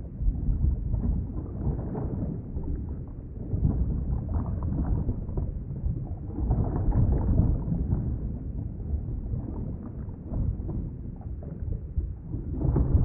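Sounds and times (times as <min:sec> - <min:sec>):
underwater rumble of moving water: 0:00.0 - 0:13.0.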